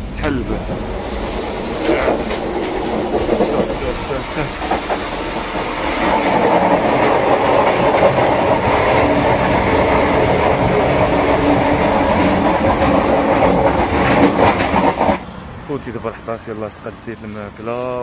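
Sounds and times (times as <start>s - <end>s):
rumble of train wheels on rails: 0.0s - 18.0s.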